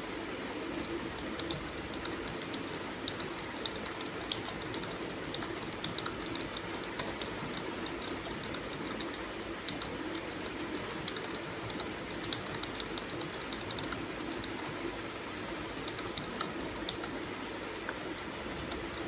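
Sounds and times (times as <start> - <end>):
steady background hiss: 0.0 - 19.0
fast typing on keyboard: 0.8 - 19.0.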